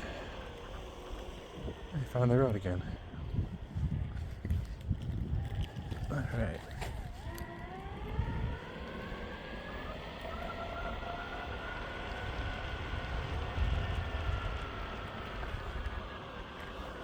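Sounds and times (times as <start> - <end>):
electric skateboard motors whining: 0.0 - 17.0
wheels rolling on pavement: 0.0 - 17.0.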